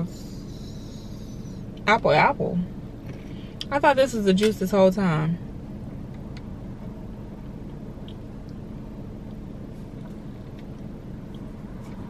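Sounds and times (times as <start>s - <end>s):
car hum from inside: 0.0s - 12.0s.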